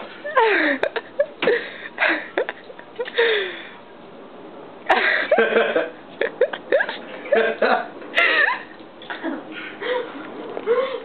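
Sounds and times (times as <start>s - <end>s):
young woman giggling: 0.3s - 3.4s, 4.9s - 11.0s.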